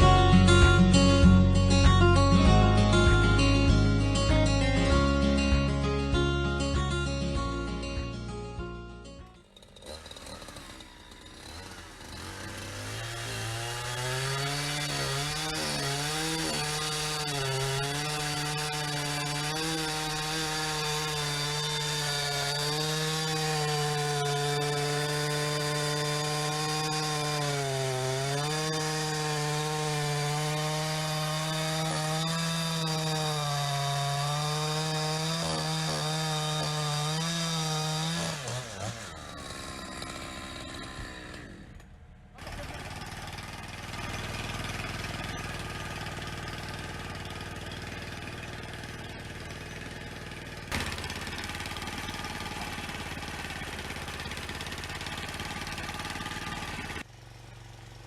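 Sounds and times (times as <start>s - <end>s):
chainsaw cutting log: 0.0s - 7.5s, 9.3s - 58.0s.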